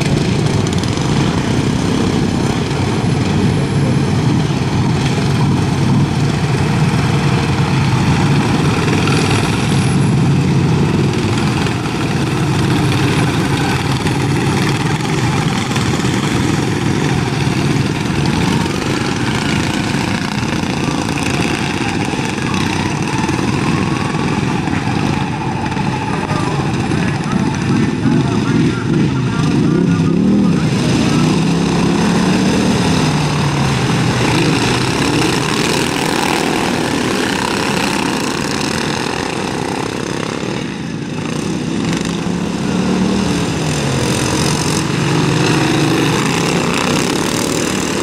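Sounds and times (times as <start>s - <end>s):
lawn mower engines droning: 0.0s - 48.0s.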